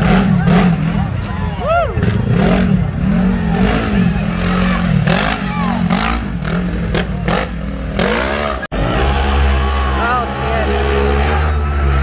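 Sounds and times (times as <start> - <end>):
engine revving: 0.0 - 1.2, 2.0 - 12.0.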